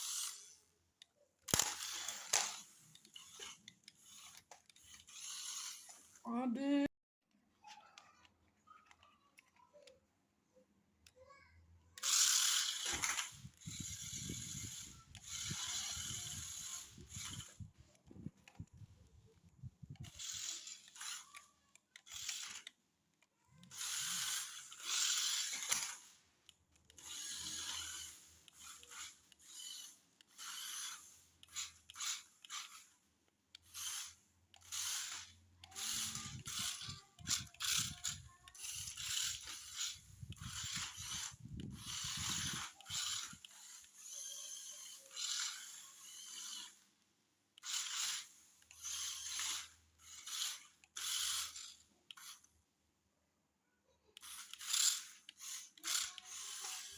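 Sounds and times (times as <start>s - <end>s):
toy car motor whirring: 0.0s - 52.8s, 53.8s - 56.9s.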